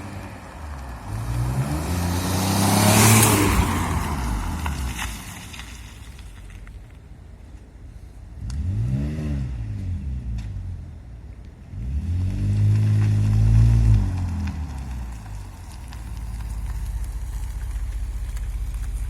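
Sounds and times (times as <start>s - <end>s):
car exhaust idling and revving: 0.0s - 19.0s.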